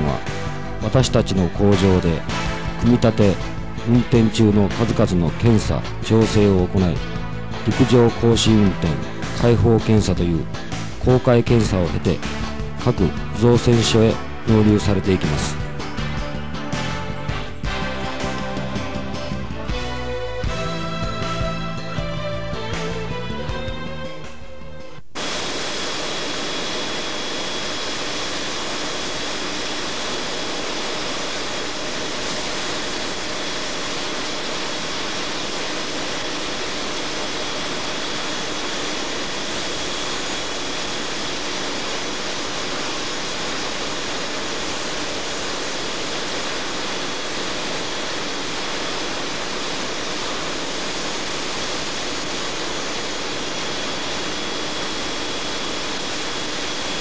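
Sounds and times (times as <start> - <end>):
high whine: 0.0 - 23.6, 24.9 - 57.0.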